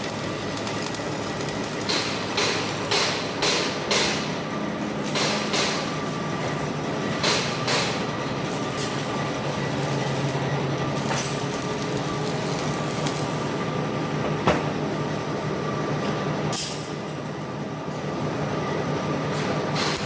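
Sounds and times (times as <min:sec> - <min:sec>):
workshop hum: 0:00.0 - 0:20.0.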